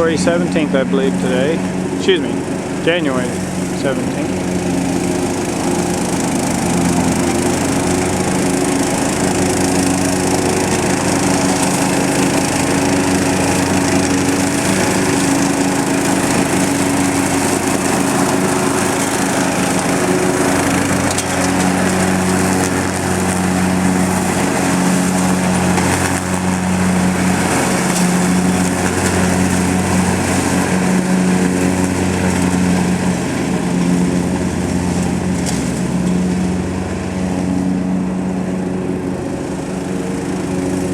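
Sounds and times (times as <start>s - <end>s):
lawn mower engine running: 0.0s - 40.9s
mower blade shredding leaves: 0.0s - 40.9s.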